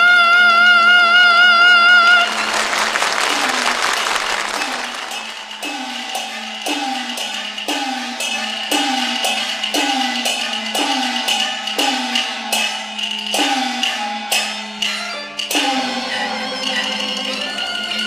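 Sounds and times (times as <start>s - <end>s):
gongs beating: 2.0s - 18.0s
drum strokes: 2.2s - 18.0s.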